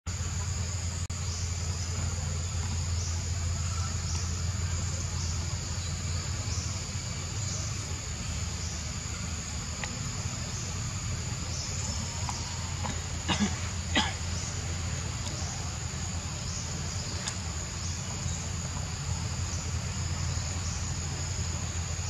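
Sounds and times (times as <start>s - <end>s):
insects buzzing: 0.1s - 22.0s
steady low hum: 0.1s - 22.0s.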